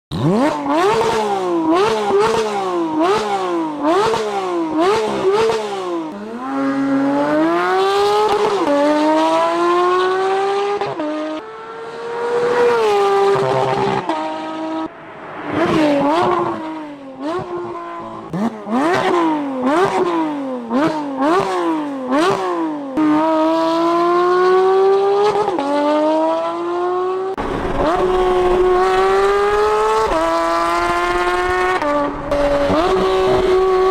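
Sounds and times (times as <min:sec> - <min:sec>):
car engine revving hard: 0:00.1 - 0:33.9.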